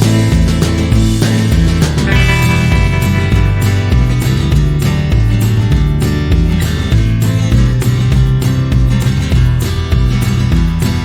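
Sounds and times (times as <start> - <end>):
steady beat: 0.0 - 11.0
strummed guitar: 0.0 - 11.0.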